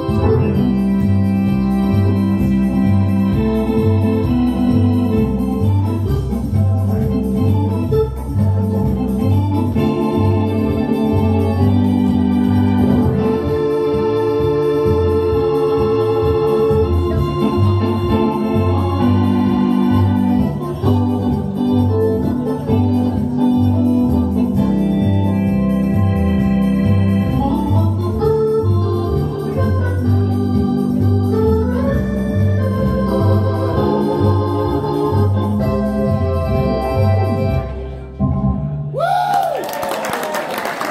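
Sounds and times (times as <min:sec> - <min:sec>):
organ playing chords over bass: 0:00.0 - 0:38.9.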